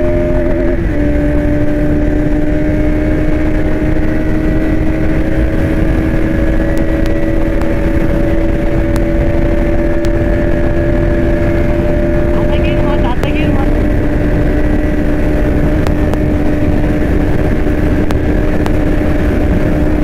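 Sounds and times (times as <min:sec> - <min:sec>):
motorcycle engine running hard: 0:00.0 - 0:20.0
wind rushing on microphone: 0:00.0 - 0:20.0.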